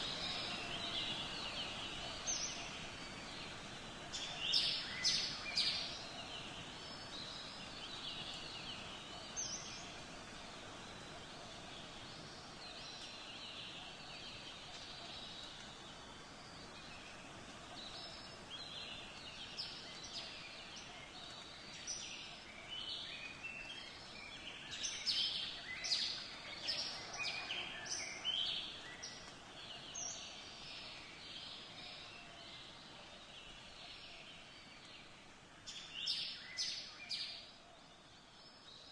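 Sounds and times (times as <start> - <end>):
faint steady hiss: 0.0 - 38.9.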